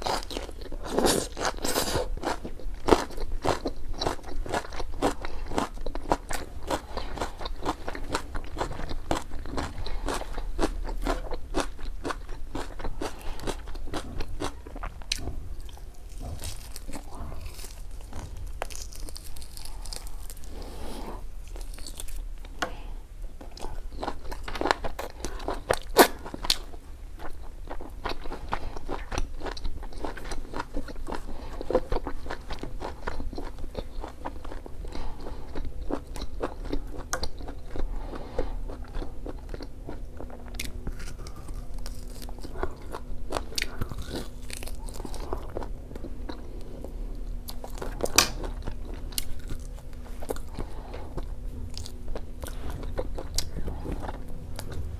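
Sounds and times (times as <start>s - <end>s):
crunching crispy food: 0.0s - 22.6s, 23.8s - 54.9s
wet chewing: 0.0s - 22.6s, 23.4s - 54.9s.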